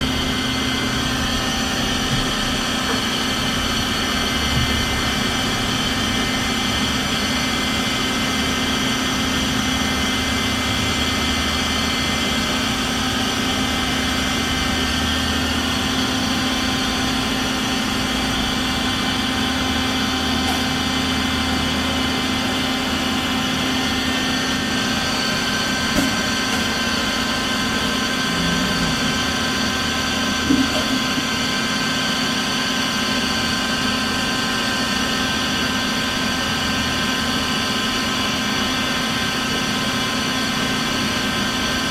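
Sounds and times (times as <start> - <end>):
grinder machine hum: 0.0 - 41.9.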